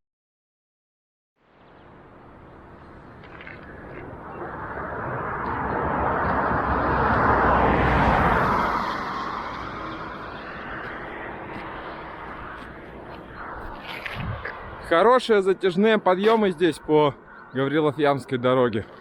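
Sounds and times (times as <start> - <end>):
vehicle passing on highway: 1.9 - 19.0.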